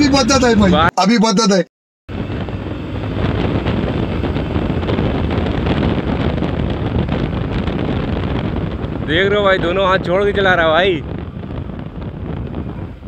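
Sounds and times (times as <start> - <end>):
motorcycle engine: 2.1 - 13.0
wind rushing over microphone: 2.1 - 13.0.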